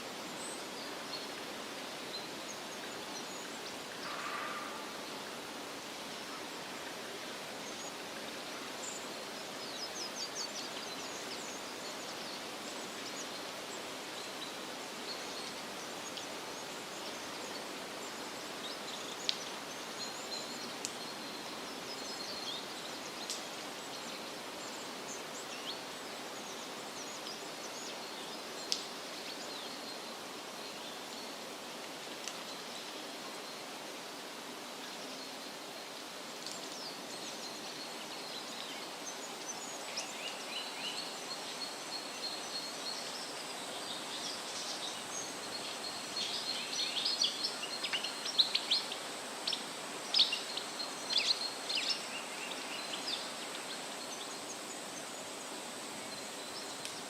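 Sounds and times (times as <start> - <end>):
wind rustling leafy trees: 0.0 - 57.0.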